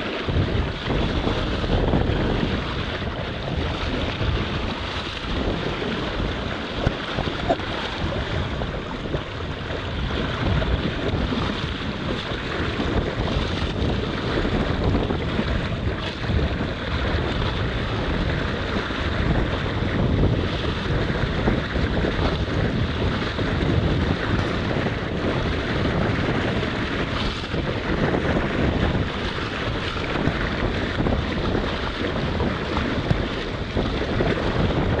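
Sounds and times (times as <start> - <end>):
water rushing along hull: 0.0 - 35.0
wind buffeting microphone: 0.0 - 35.0.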